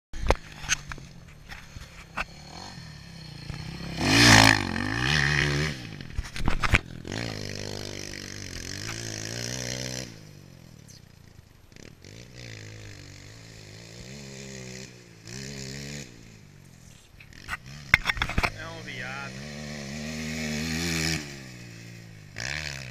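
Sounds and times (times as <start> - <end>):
dirt bike engine revving: 0.2 - 22.9.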